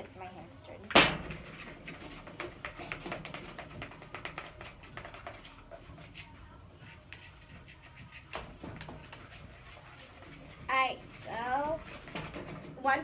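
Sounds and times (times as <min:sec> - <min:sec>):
stick stirring sticky slime: 0:01.3 - 0:13.0.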